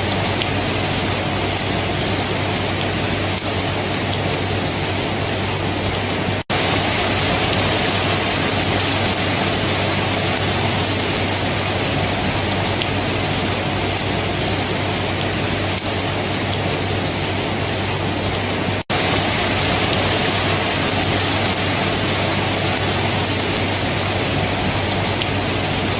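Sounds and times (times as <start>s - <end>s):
dense rainfall: 0.0s - 25.9s.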